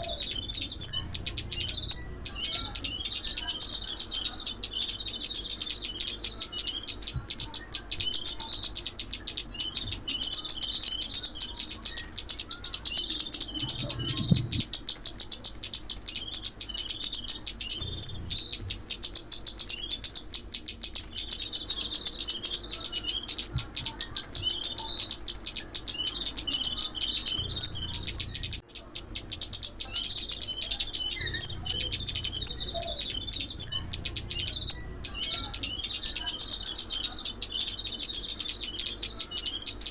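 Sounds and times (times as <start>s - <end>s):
sunbird twittering and chirps: 0.0s - 39.9s.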